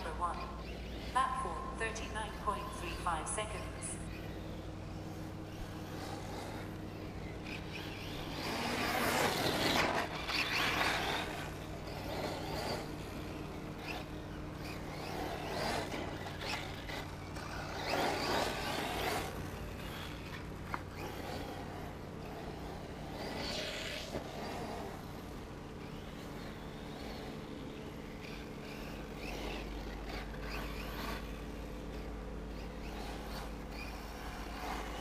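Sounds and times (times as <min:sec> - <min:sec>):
rc cars motor and tyre noise: 0:00.0 - 0:35.0
steady low hum: 0:00.0 - 0:35.0.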